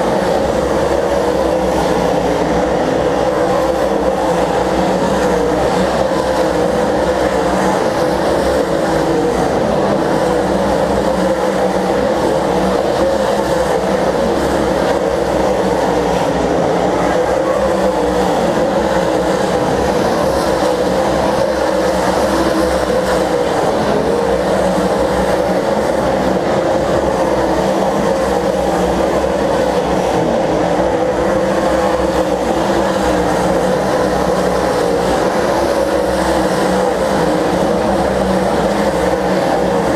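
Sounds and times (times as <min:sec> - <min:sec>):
race car engines running: 0:00.0 - 0:39.9.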